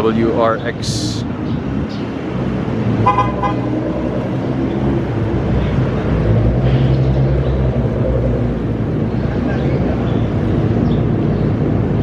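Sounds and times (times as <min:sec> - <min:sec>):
car engines humming: 0:00.0 - 0:12.0.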